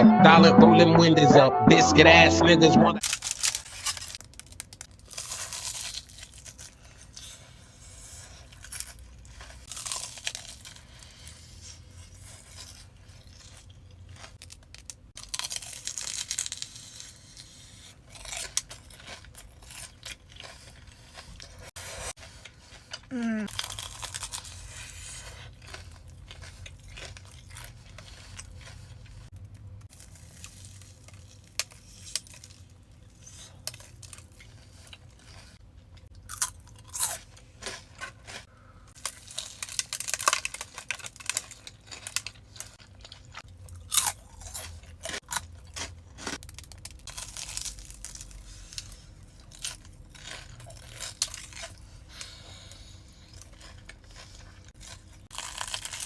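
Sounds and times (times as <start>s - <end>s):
crunchy bites and chewing: 3.0s - 56.0s.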